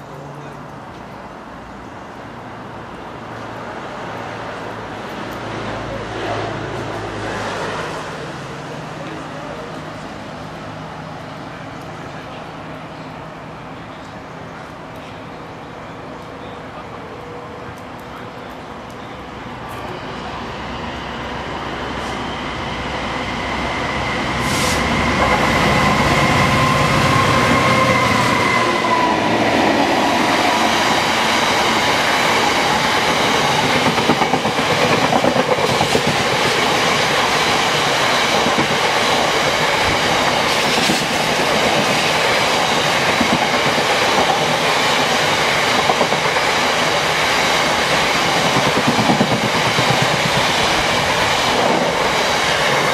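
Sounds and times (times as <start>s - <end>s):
diesel locomotive engine whine: 3.3s - 52.9s.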